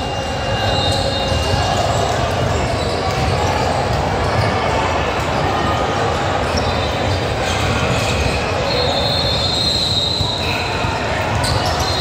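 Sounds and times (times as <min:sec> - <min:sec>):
crowd and game noise: 0:00.0 - 0:12.0.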